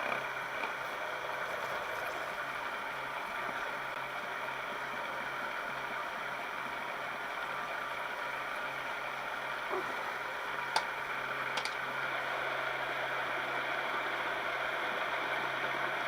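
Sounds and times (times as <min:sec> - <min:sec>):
milling machine running: 0:00.0 - 0:16.0.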